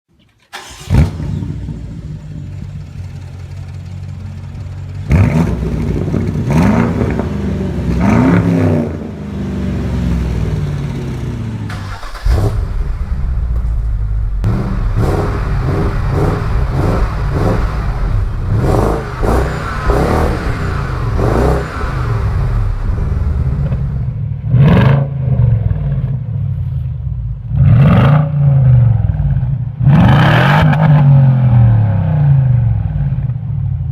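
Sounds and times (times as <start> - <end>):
car engine revving: 0.5 - 26.8, 27.4 - 32.8.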